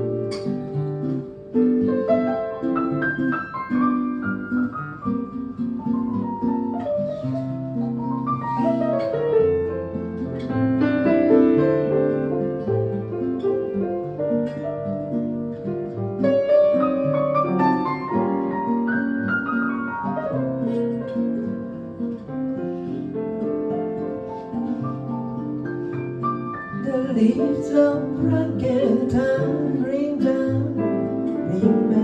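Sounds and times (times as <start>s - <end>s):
acoustic guitar accompaniment: 0.0s - 32.0s.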